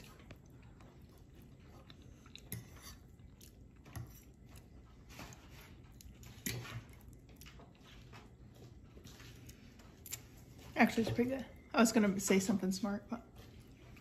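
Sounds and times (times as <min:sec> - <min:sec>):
chewing: 0:00.0 - 0:11.7, 0:13.2 - 0:14.0.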